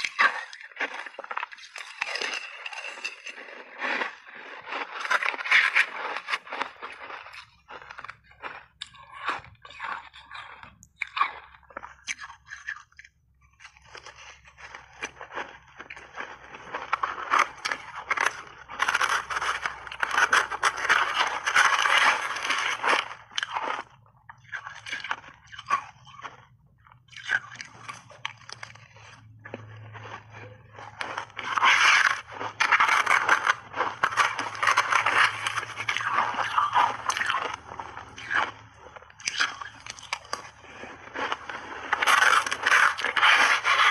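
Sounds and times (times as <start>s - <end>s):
crunching and chewing ice: 0.0s - 43.9s.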